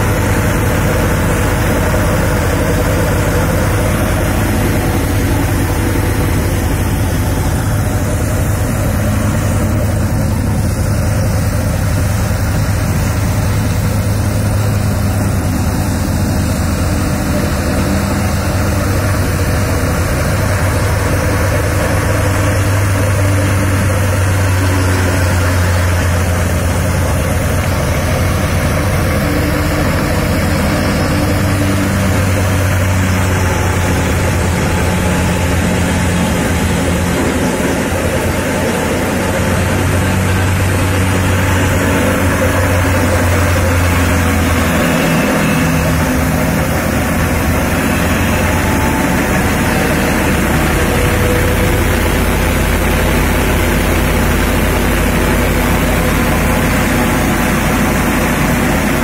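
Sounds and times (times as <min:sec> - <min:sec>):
thresher machine droning: 0:00.0 - 0:59.0.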